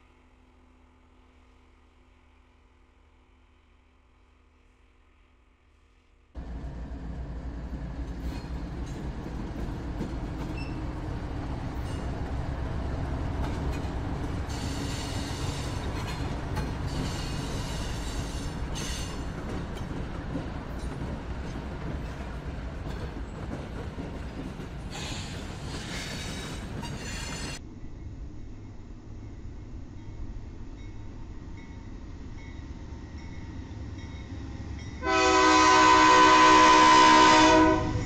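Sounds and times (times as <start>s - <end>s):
locomotive engines rumbling: 6.4s - 38.0s.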